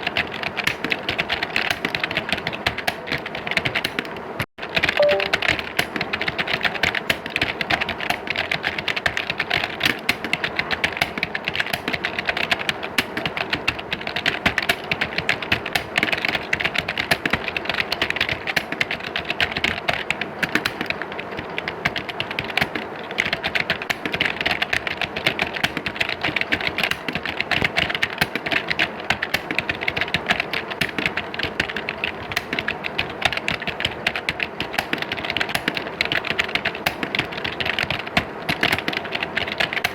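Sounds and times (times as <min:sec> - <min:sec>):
many keyboards clattering: 0:00.0 - 0:39.9.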